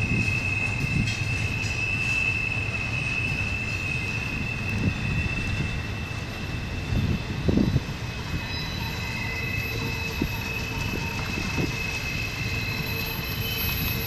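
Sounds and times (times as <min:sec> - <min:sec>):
rumble of wheels on rail: 0:00.0 - 0:14.0
wheel flanges squealing: 0:00.0 - 0:14.0.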